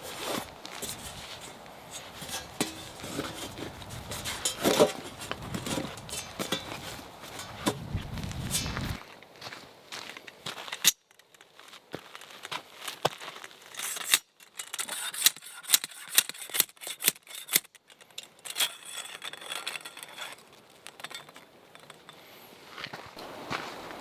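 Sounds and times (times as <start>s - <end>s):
crinkling and rustling: 0.0s - 9.3s, 10.1s - 23.2s.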